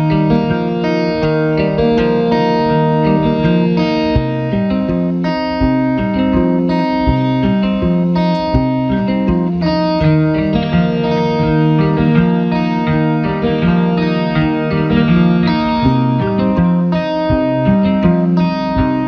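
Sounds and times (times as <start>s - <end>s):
guitar-led instrumental music: 0.0s - 19.0s.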